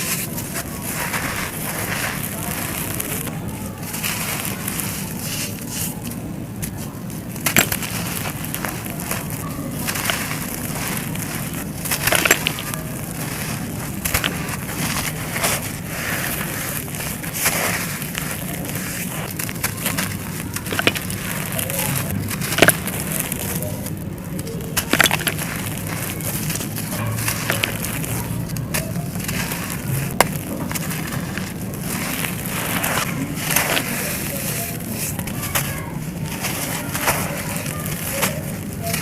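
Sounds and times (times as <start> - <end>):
dry material being crushed: 0.0 - 39.0.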